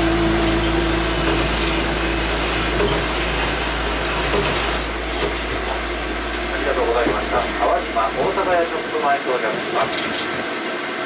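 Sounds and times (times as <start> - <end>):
steady hum: 0.0 - 10.8
tram wheels rumbling on rail: 0.0 - 11.0.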